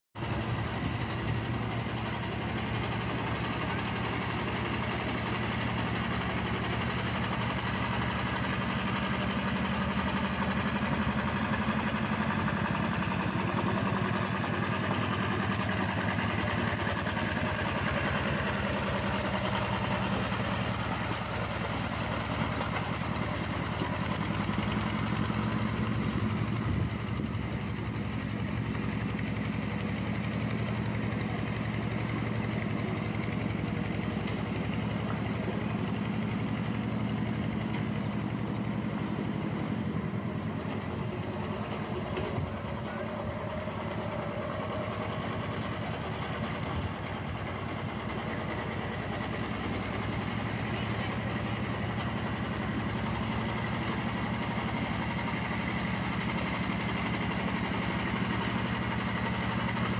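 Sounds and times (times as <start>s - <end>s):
diesel engine running: 0.2s - 59.9s.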